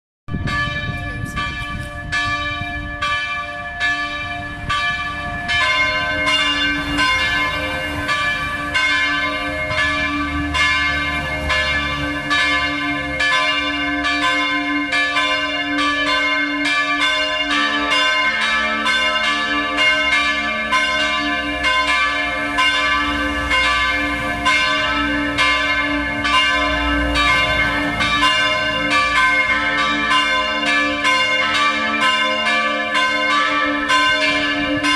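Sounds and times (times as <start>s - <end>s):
church bells pealing: 0.3s - 34.9s
deeper bell striking: 0.3s - 34.9s.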